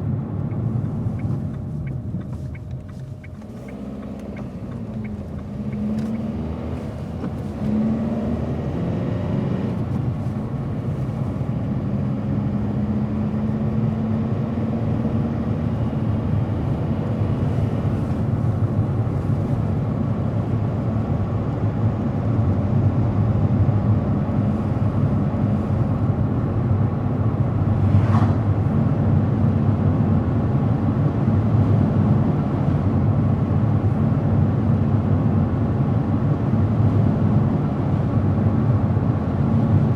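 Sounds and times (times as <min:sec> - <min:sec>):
car engine: 0:00.0 - 0:39.9.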